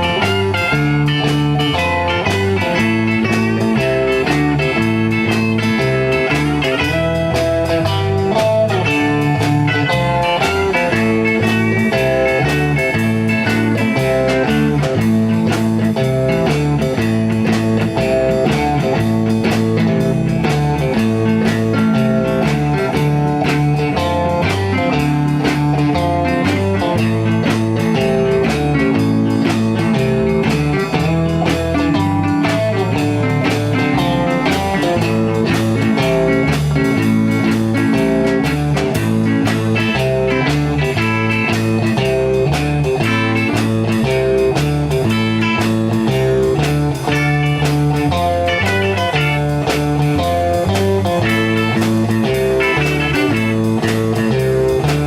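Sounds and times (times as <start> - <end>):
bass: 0.0 - 55.0
drum beat: 0.0 - 55.0
electric guitar: 0.0 - 55.0.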